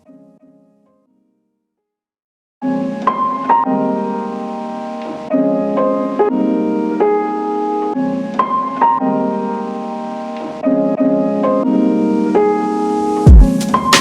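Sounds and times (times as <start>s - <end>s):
piano chords: 2.6s - 14.0s.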